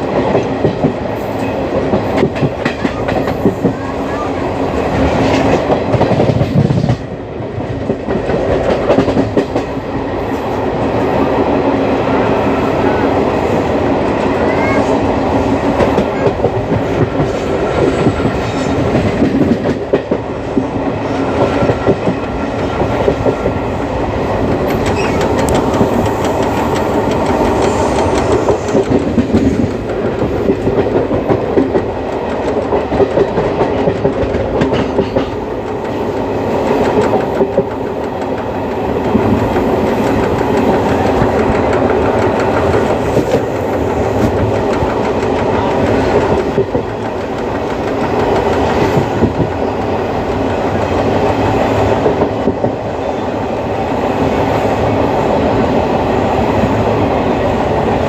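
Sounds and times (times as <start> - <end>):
train wheels clattering: 0.0 - 11.0, 13.9 - 53.0.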